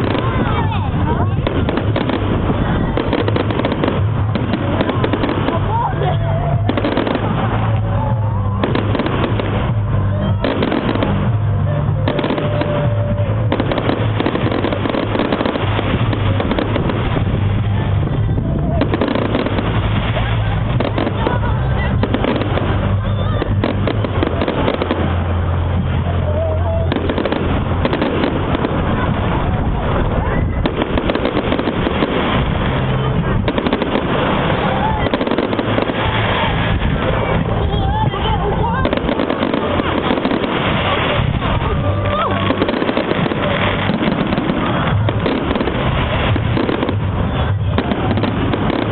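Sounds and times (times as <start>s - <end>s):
firework whistling: 0.0s - 48.9s
fireworks crackling and banging: 0.0s - 48.9s.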